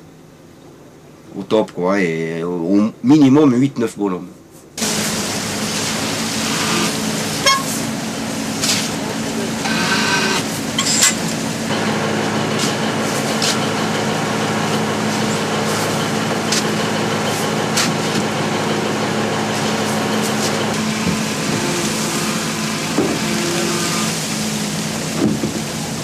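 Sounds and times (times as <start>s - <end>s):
boat engine running: 4.8s - 26.0s.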